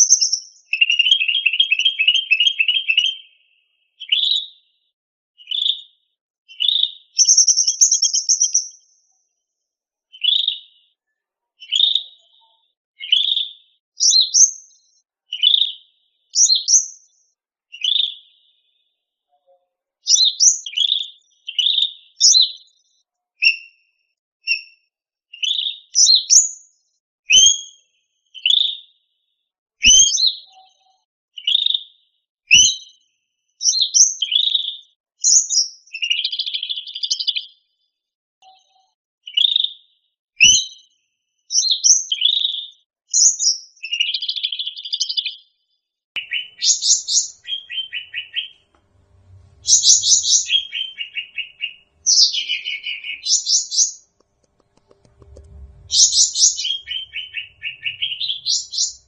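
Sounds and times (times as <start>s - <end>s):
songbird chirping and whistling: 0.0s - 4.7s, 5.4s - 5.9s, 6.5s - 9.1s, 10.1s - 10.9s, 11.6s - 18.8s, 20.0s - 23.8s, 24.4s - 24.8s, 25.4s - 28.9s, 29.8s - 31.9s, 32.5s - 33.0s, 33.6s - 37.6s, 38.4s - 39.8s, 40.4s - 45.4s, 46.2s - 48.6s, 49.4s - 54.1s, 55.1s - 59.0s.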